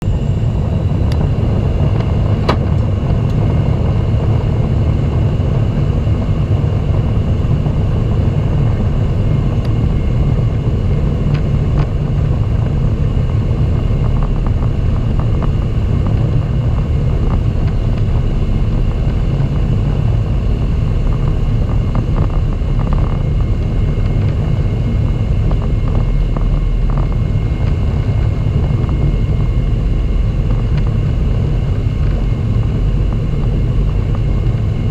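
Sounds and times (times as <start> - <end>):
jet cabin engine rumble: 0.0 - 34.9.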